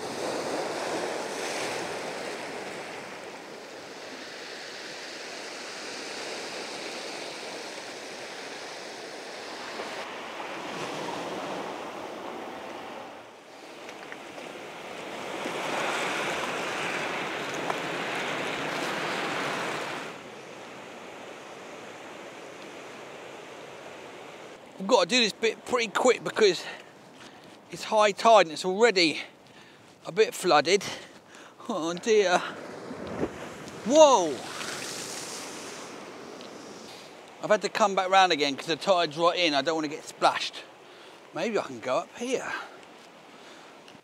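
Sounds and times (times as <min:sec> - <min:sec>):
sea waves breaking over rocks: 0:00.0 - 0:29.2, 0:31.5 - 0:44.0.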